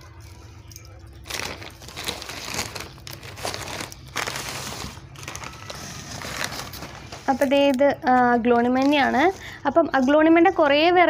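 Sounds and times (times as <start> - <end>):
newspaper crinkling and rustling: 1.2 - 10.1.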